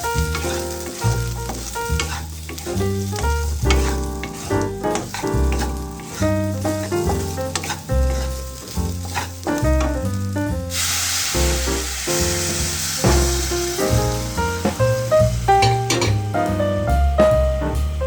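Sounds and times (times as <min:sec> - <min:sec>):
food sizzling in hot oil: 0:00.0 - 0:16.5
background music with bass line: 0:00.0 - 0:18.0.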